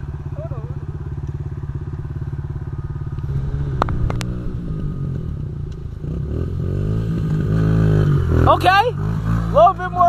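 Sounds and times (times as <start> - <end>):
dirt bike engine puttering: 0.0 - 10.0.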